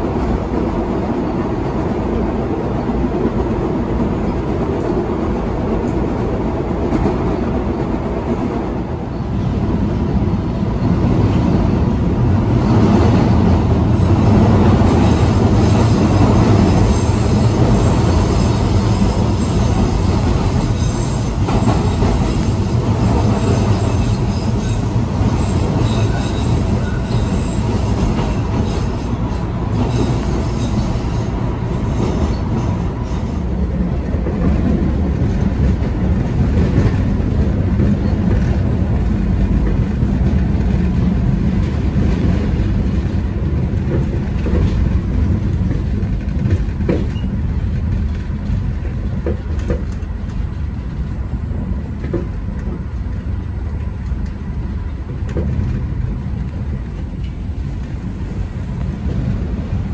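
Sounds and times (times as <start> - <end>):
subway train wheels rumbling: 0.0 - 59.9.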